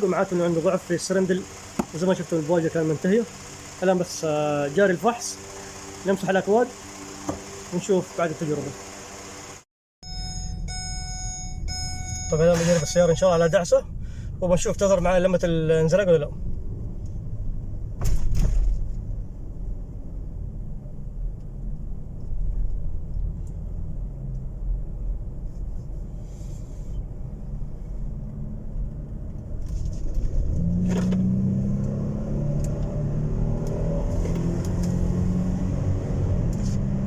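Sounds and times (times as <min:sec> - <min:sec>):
car engine rumbling: 0:00.0 - 0:37.0.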